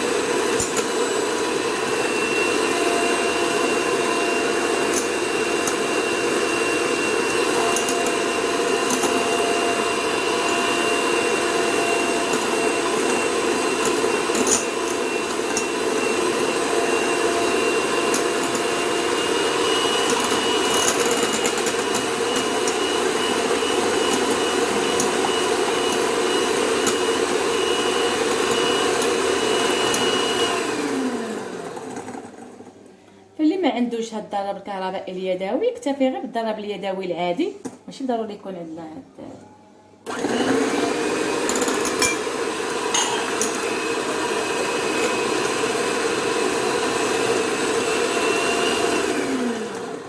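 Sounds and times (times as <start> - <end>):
electric hand mixer running: 0.0 - 32.8, 40.1 - 50.0.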